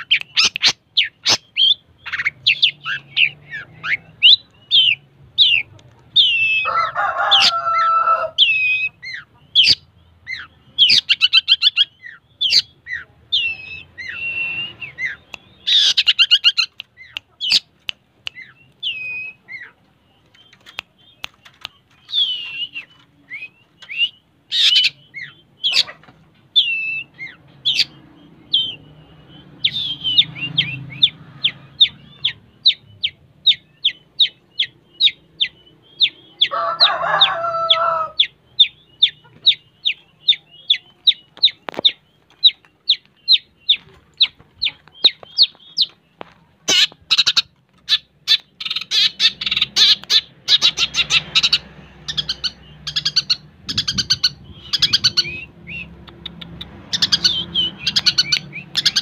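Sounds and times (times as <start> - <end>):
shrike singing: 0.0 - 59.0.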